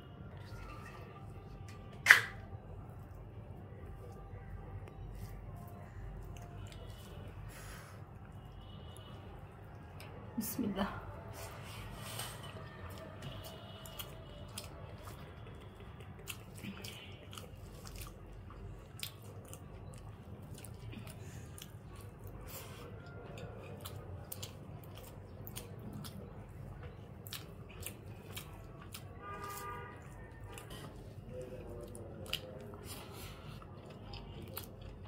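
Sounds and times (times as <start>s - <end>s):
chewing rice: 0.3s - 10.3s, 11.0s - 35.0s.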